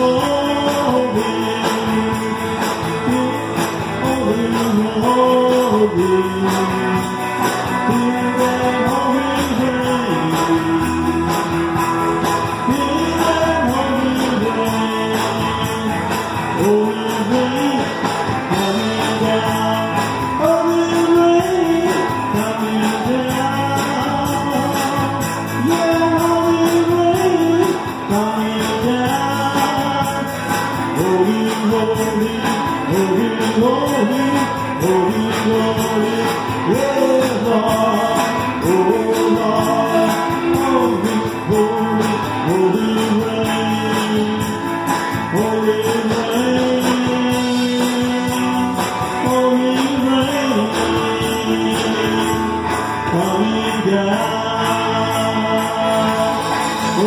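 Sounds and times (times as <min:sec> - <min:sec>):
electric guitars playing melody: 0:00.0 - 0:57.0
jingling percussion beat: 0:00.0 - 0:57.0.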